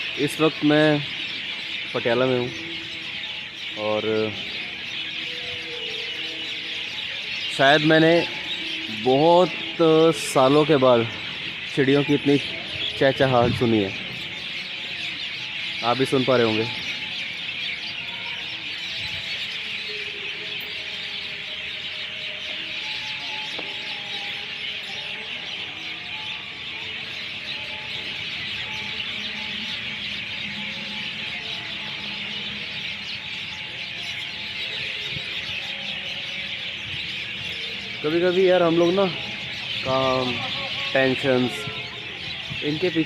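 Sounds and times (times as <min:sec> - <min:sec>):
many birds chirping: 0:00.0 - 0:43.0.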